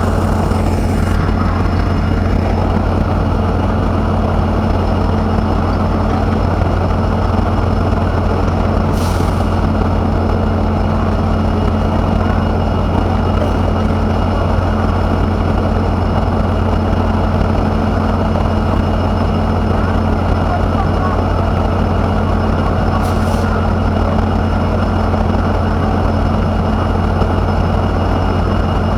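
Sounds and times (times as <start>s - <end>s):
electric locomotive humming: 0.0s - 28.9s.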